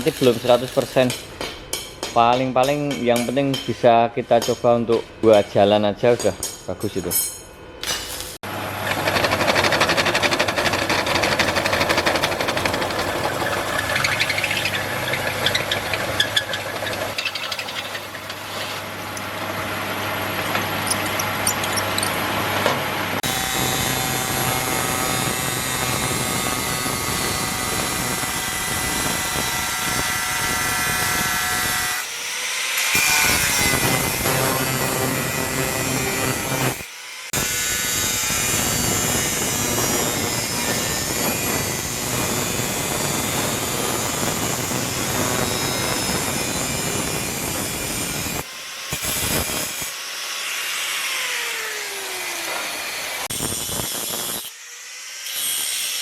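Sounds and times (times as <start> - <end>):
angle grinder grinding steel: 8.8 - 56.0.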